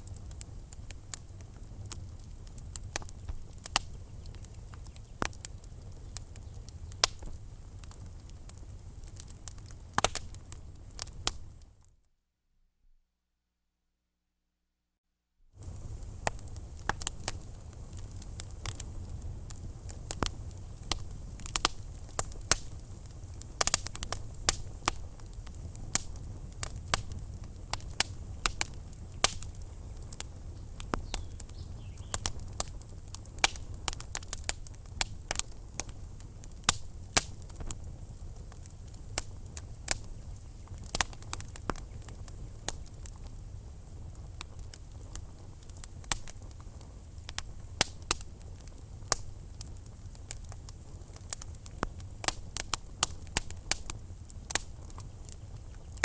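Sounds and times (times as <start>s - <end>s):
wood fire crackling and popping: 0.0s - 11.9s, 15.6s - 56.0s.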